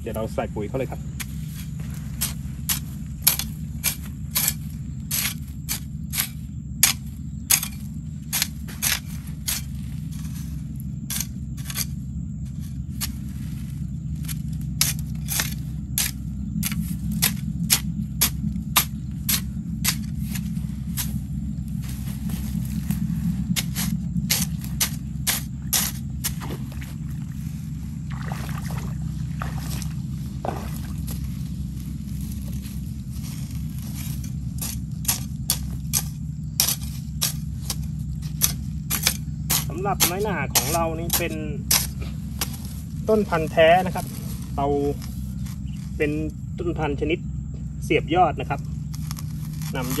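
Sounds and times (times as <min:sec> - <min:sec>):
hoe chopping dry soil: 0:00.0 - 0:46.8, 0:48.1 - 0:50.0
low rumble: 0:00.0 - 0:50.0
steady low hum: 0:00.0 - 0:50.0.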